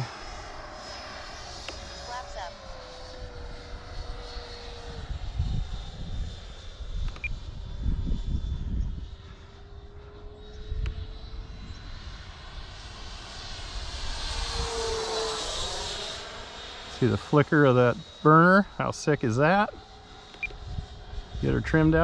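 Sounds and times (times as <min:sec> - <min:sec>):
electric ducted fan whining: 0:00.0 - 0:22.0.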